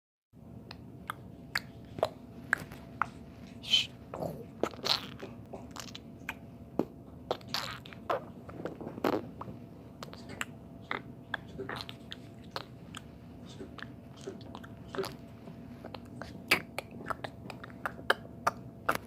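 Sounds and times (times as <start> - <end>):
faint steady hum: 0.4 - 19.0
crackling noises: 0.7 - 19.0.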